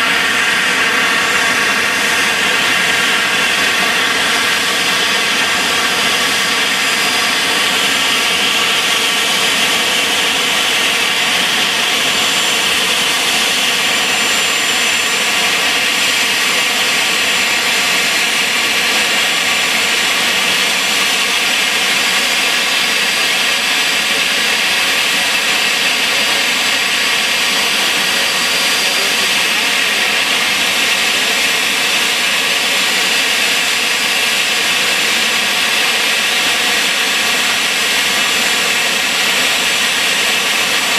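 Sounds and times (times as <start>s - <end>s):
jet engine whine: 0.0s - 40.9s.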